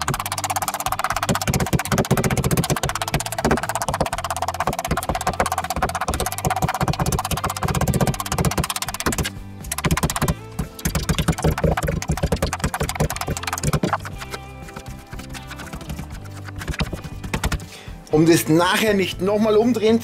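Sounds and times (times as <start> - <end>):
meat mallet pounding on board: 0.0 - 17.7
background music: 0.0 - 20.0.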